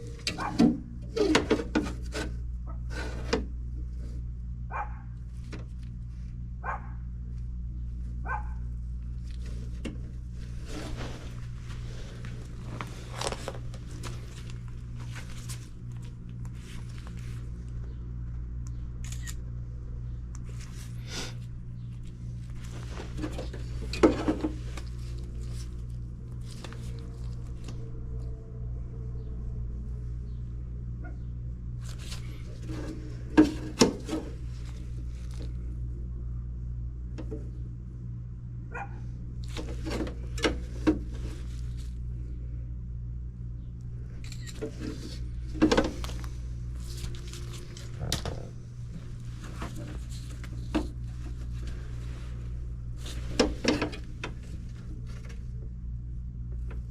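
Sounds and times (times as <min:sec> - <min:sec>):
low mains hum: 0:00.0 - 0:56.9.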